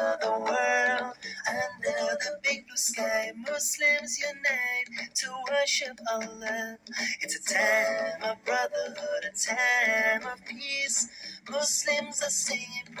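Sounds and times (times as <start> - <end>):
person singing a melody: 0.0 - 13.0.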